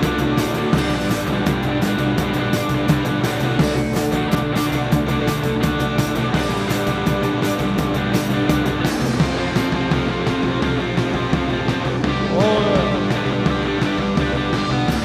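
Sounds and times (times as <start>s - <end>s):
distorted electric guitar: 0.0s - 15.0s
drums fast beat: 0.0s - 15.0s.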